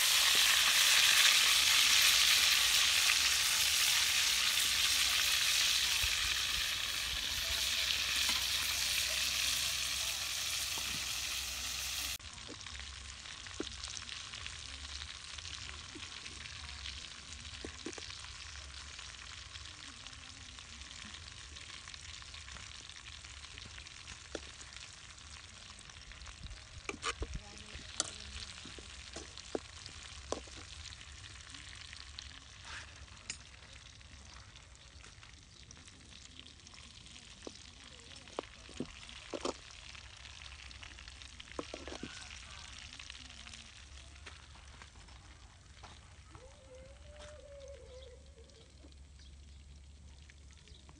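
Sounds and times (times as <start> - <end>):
chicken sizzling in oil: 0.0 - 50.9.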